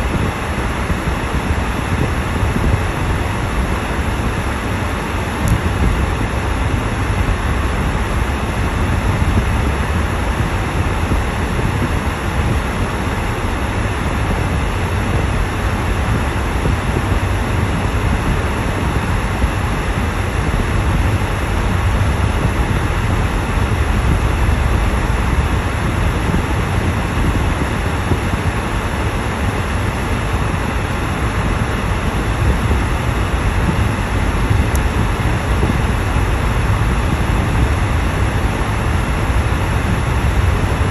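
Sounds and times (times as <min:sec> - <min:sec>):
car engine running: 0:00.0 - 0:40.9
tyres rolling on snowy road: 0:00.1 - 0:40.9.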